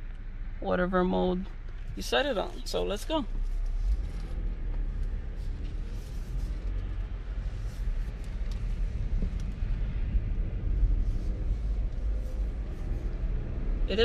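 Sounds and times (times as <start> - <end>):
car engine rumble: 0.0 - 14.0
road noise inside car: 0.0 - 14.0.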